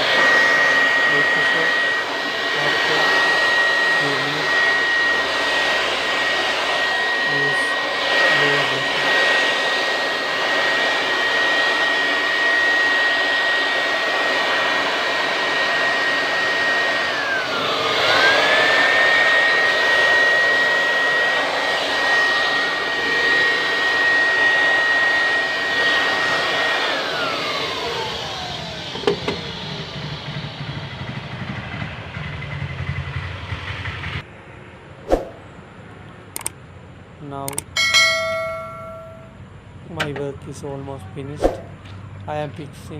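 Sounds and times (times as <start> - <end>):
electric blower whining: 0.0 - 34.3, 37.5 - 39.4.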